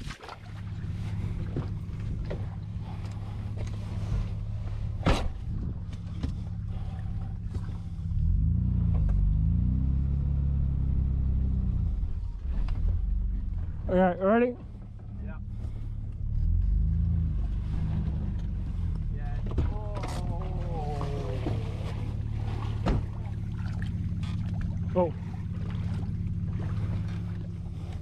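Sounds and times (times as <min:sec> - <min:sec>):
engine revving: 0:00.4 - 0:28.0.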